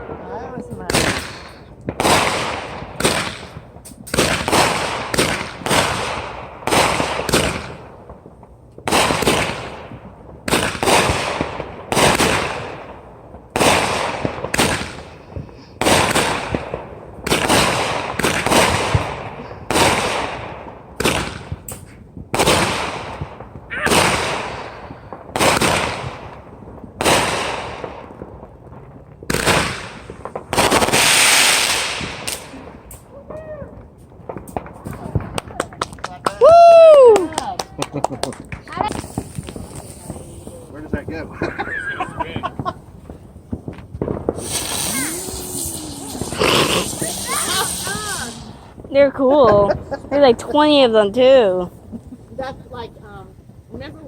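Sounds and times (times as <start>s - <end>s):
firework cake bangs: 0.0s - 26.4s, 34.2s - 53.7s.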